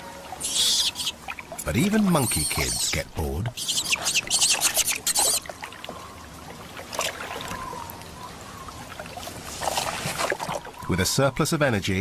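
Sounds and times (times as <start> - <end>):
water splashing: 0.0 - 11.3
water trickling: 0.0 - 12.0.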